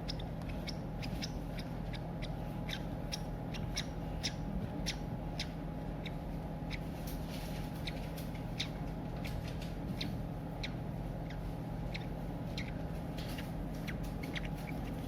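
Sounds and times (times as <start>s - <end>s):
baby bird cheeping: 0.0s - 15.0s.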